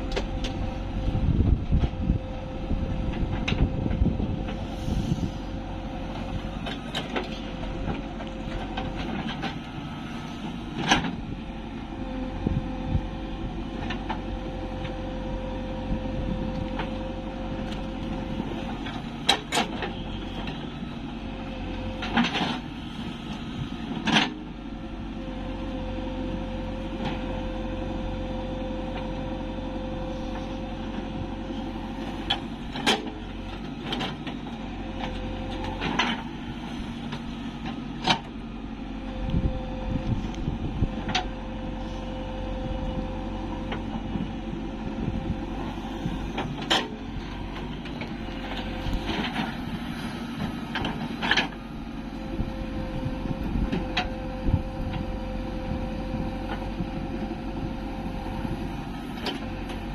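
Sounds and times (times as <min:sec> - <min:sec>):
diesel engine under hydraulic load: 0:00.0 - 0:59.9.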